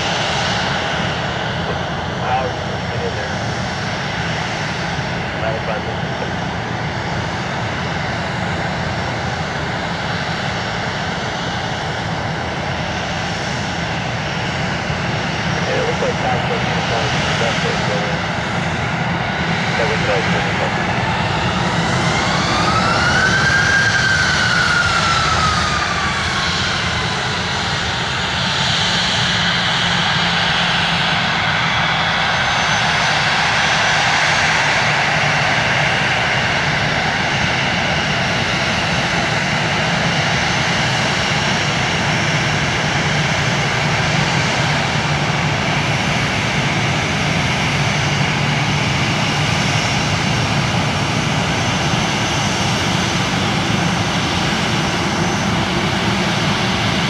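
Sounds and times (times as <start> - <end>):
high engine whine: 0.0 - 57.0
jet engines rumbling and whining: 0.0 - 57.0.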